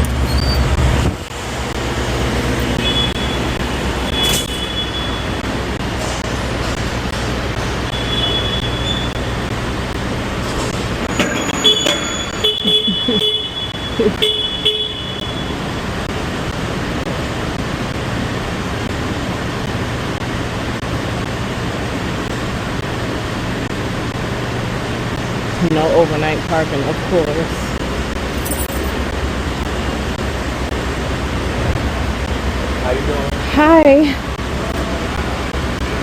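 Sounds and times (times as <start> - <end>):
truck engine and road noise: 0.0 - 36.0.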